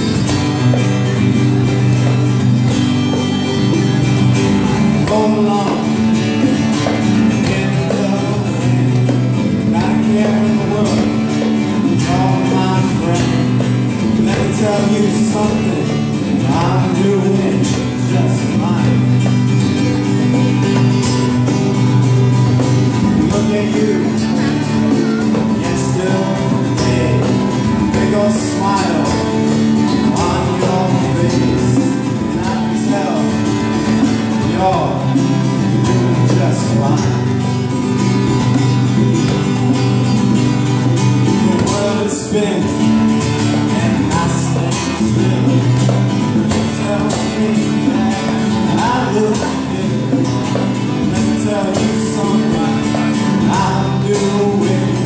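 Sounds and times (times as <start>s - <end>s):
man singing: 0.0s - 55.0s
strummed acoustic guitar: 0.0s - 55.0s.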